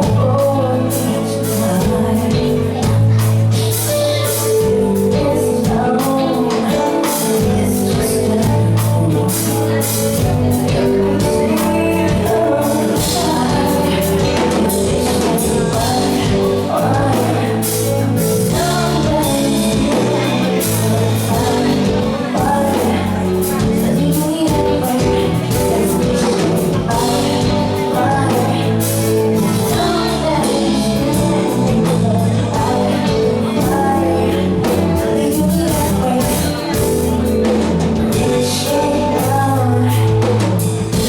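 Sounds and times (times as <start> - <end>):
live band playing pop ballad: 0.0 - 41.0
person singing: 0.0 - 41.0
steady drum beat: 0.0 - 41.0.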